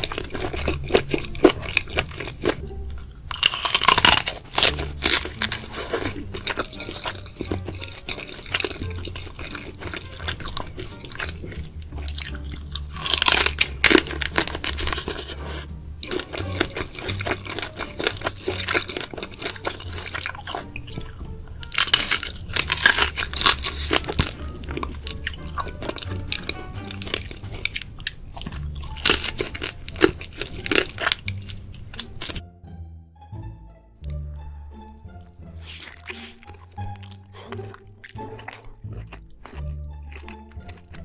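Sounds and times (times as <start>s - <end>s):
crunching and chewing food: 0.0s - 32.4s, 34.0s - 41.0s
background music: 0.0s - 41.0s.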